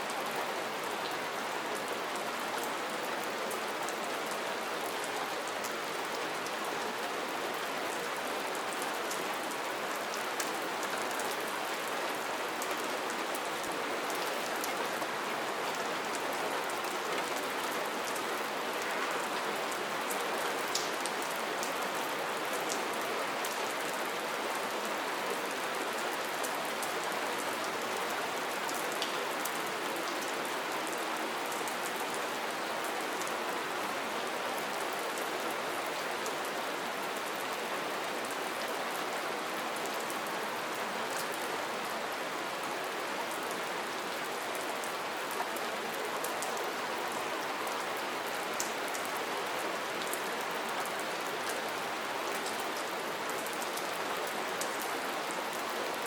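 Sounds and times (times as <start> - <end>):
soft rain: 0.0 - 56.0.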